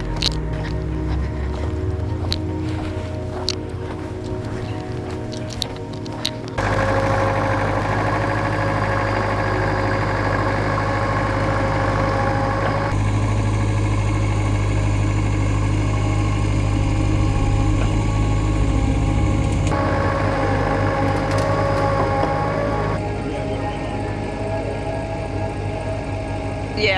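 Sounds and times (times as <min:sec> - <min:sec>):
loader engine humming: 0:00.0 - 0:26.9.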